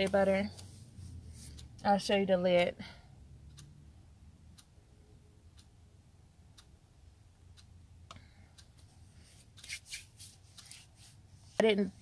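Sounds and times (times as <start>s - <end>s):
clock ticking: 0.0s - 9.7s, 10.5s - 10.8s.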